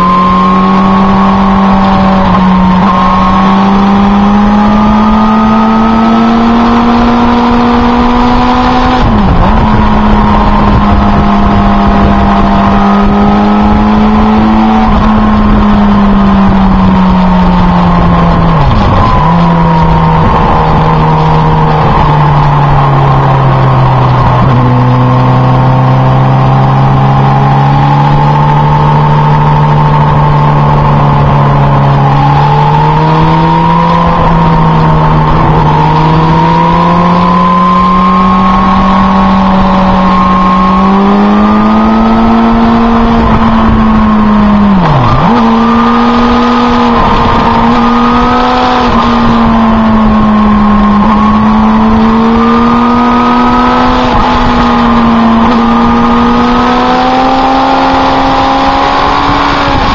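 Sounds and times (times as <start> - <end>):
motorcycle engine running: 0.0 - 59.9
wind noise: 0.0 - 59.9.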